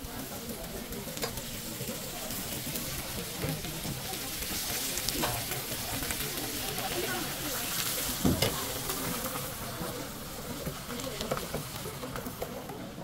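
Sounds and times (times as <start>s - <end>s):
batter sizzling on griddle: 0.0s - 13.0s.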